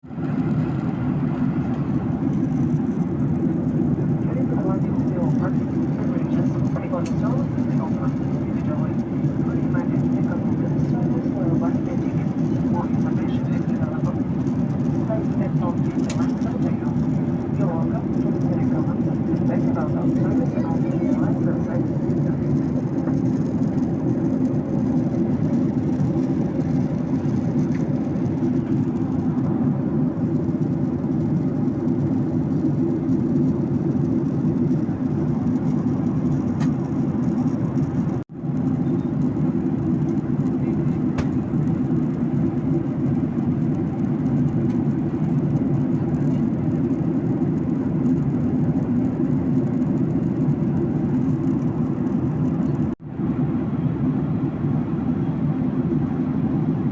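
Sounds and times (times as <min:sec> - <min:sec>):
airliner cabin drone: 0:00.0 - 0:56.9.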